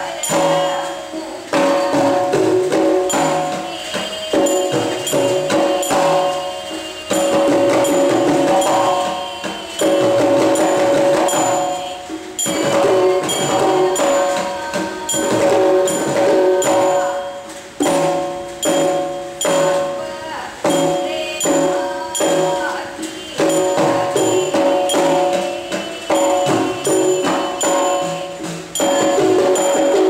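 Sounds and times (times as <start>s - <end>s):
hand cymbals ringing: 0.0s - 30.0s
pot drums struck by hand: 0.0s - 30.0s.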